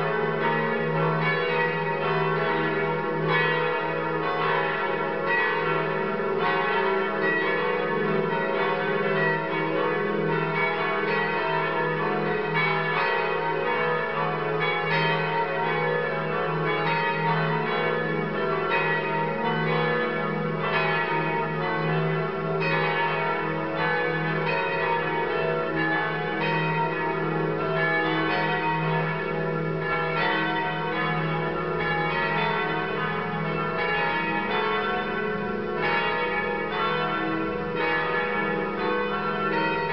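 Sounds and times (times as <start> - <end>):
cathedral bells pealing: 0.0 - 39.9.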